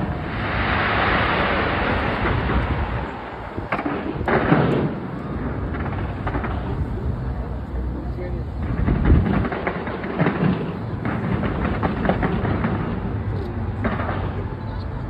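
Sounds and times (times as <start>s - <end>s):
firework bang: 0.0s - 7.3s, 8.6s - 14.8s
low booming: 0.0s - 14.7s
fireworks crackling: 0.0s - 15.0s.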